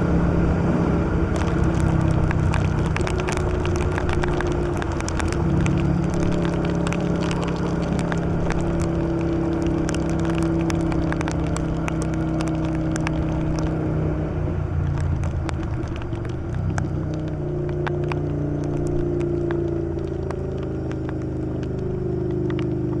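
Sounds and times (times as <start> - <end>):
motorcycle engine cruising: 0.0 - 23.0
rain ticking on motorcycle: 0.0 - 23.0
road and wind noise: 0.0 - 23.0.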